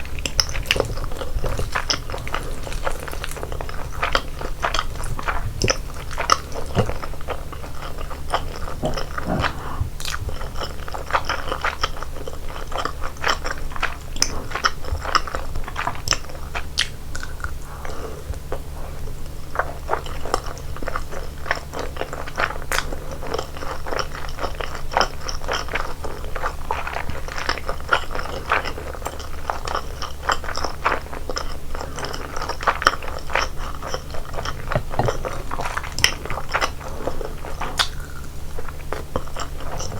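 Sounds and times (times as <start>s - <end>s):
person chewing crunchy food: 0.0s - 39.9s
steady low hum: 0.0s - 39.9s.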